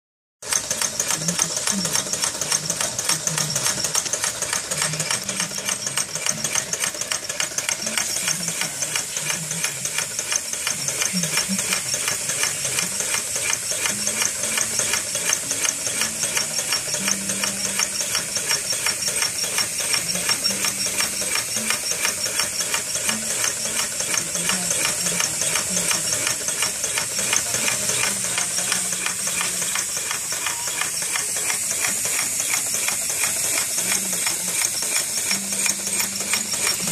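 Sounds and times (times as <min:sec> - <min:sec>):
model engine clattering: 0:00.4 - 0:36.9.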